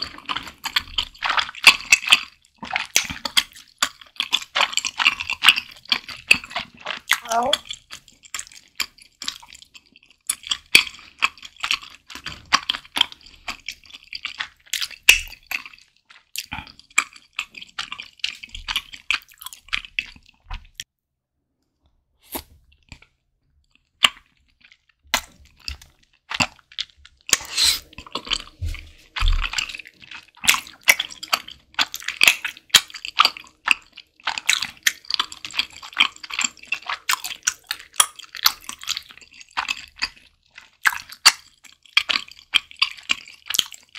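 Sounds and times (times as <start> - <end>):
wet chewing with crunchy bites: 0.0 - 20.9, 22.2 - 43.9.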